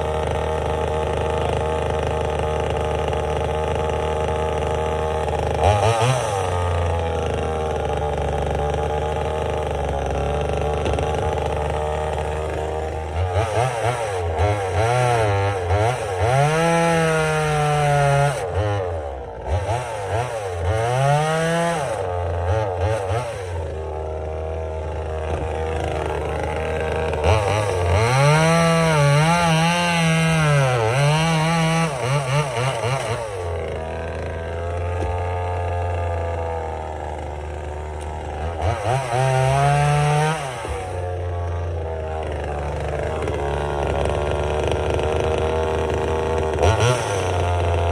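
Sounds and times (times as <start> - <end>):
chainsaw idling and revving: 0.0 - 47.9.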